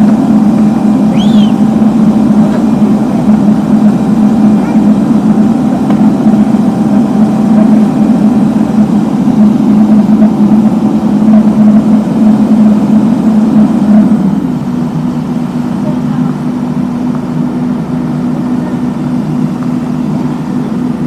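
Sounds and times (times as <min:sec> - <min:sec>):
heavy machine engine running: 0:00.0 - 0:21.0.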